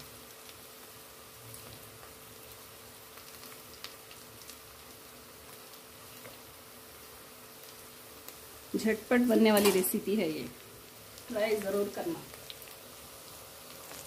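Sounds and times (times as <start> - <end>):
lentils sizzling in oil: 0.0 - 14.0.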